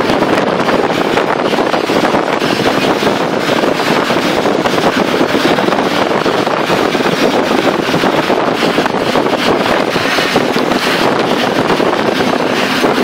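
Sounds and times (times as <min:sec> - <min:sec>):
road noise inside bus: 0:00.0 - 0:13.0
wind buffeting microphone: 0:00.0 - 0:13.0.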